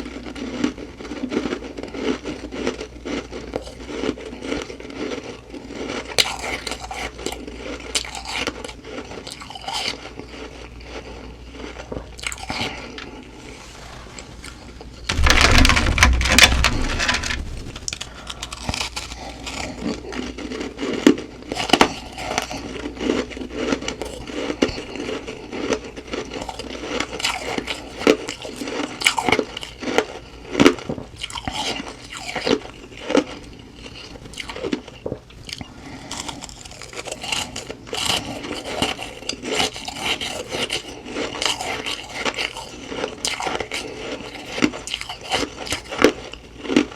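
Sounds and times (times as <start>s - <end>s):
biting and chewing frost: 0.0s - 46.9s.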